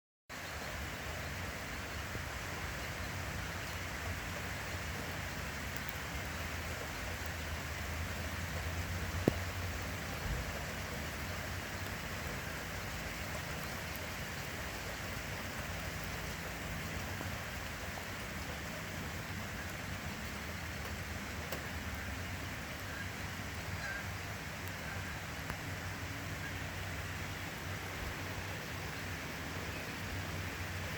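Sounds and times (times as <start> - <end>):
steady rain falling: 0.3 - 30.9.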